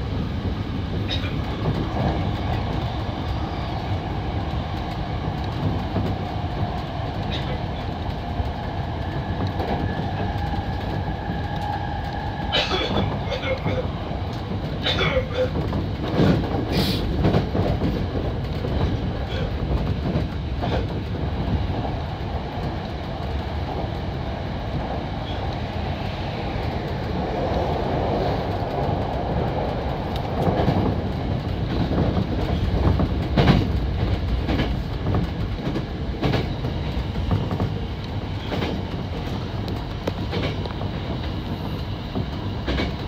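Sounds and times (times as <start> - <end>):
train wheels rumbling on rail: 0.0 - 43.0
wheels clicking over rail joints: 0.0 - 43.0.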